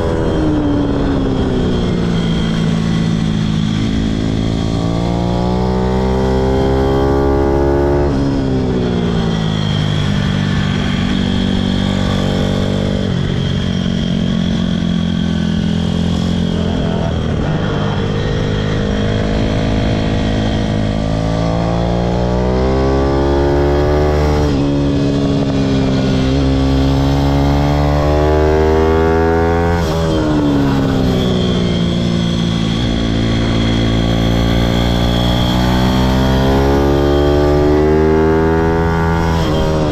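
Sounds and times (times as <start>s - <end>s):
pit bike engine revving: 2.2s - 39.9s.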